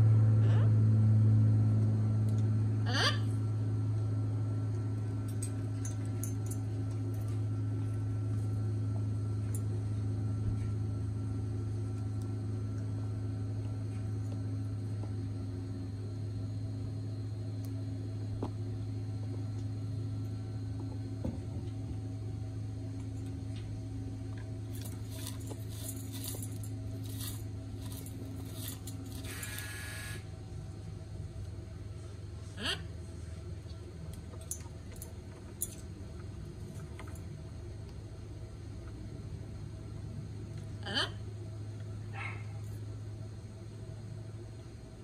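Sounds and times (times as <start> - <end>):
low motor hum: 0.0 - 45.0.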